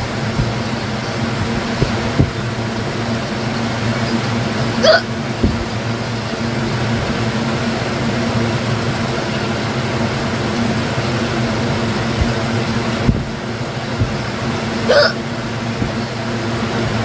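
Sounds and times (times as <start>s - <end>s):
mechanical hum with low drone: 0.0s - 17.0s.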